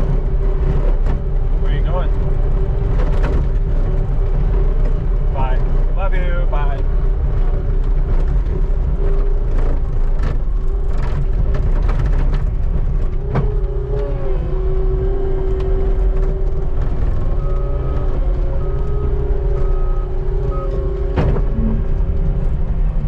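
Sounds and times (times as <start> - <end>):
skid steer engine whining: 0.0 - 23.0.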